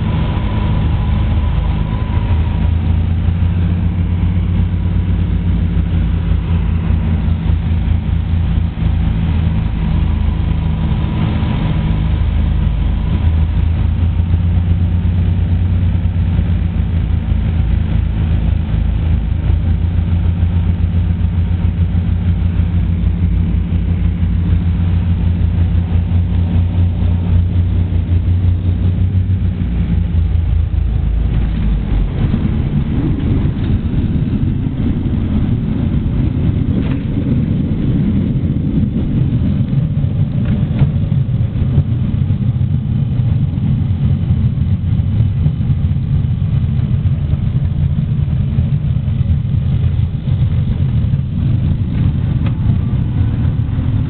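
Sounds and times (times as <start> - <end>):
plane engines droning: 0.0 - 54.0.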